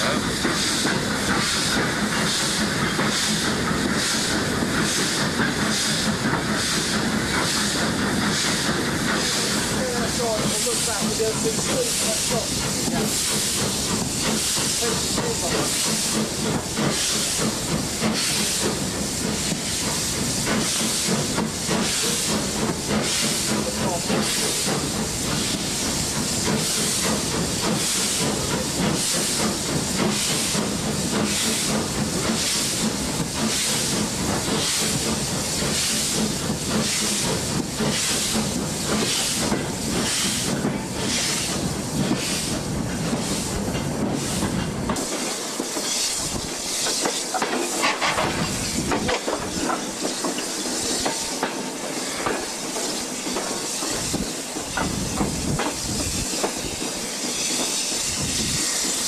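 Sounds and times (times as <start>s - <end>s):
steam hiss: 0.0s - 59.0s
steam locomotive chuffing: 0.0s - 59.0s
train rumble: 0.0s - 59.0s.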